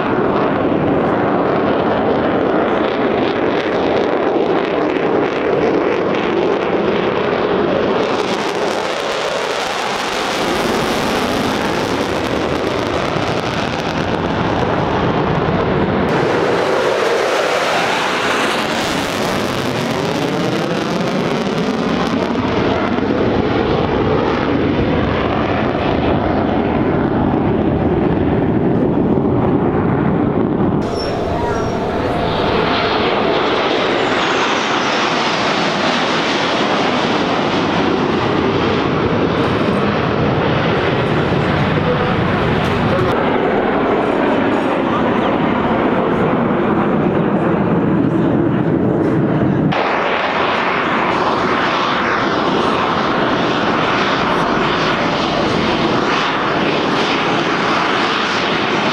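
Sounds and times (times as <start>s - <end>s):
fighter jets flying overhead: 0.0s - 58.9s.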